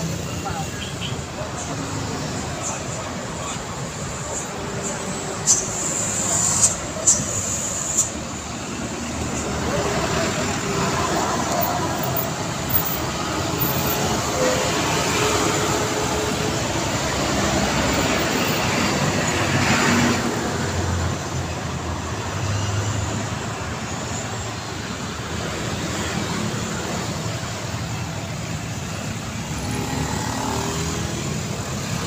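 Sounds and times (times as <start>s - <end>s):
motorcycles passing: 0.0s - 32.0s
street traffic passing: 0.0s - 32.0s.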